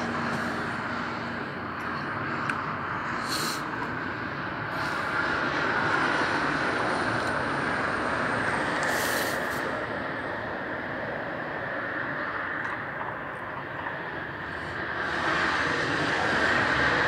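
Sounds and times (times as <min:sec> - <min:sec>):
motorway traffic rush: 0:00.0 - 0:17.0.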